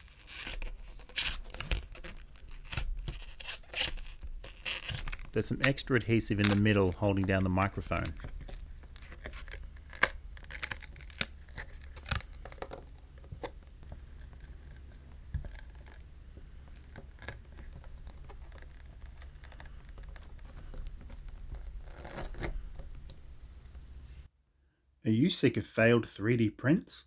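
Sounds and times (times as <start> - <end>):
glue crackling: 0.0 - 24.2.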